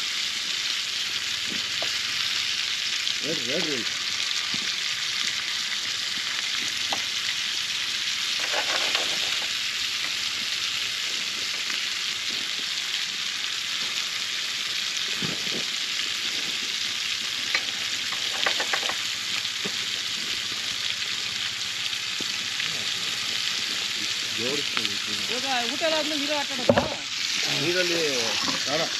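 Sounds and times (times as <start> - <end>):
fish sizzling in hot oil: 0.0 - 28.9.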